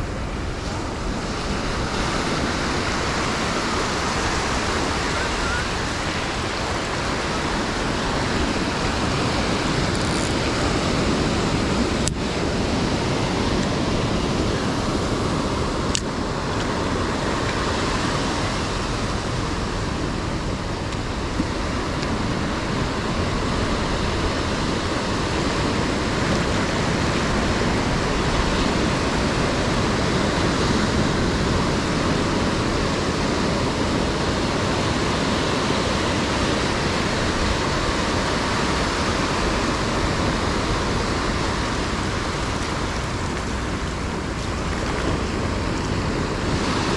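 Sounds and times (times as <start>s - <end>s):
ocean surf washing onto beach: 0.0s - 46.9s.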